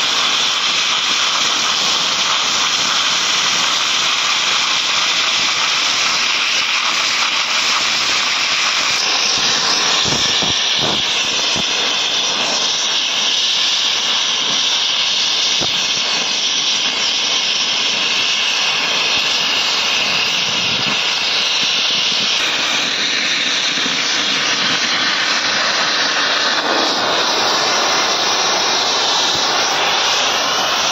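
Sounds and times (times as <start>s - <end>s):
cutting torch hissing: 0.0s - 30.9s.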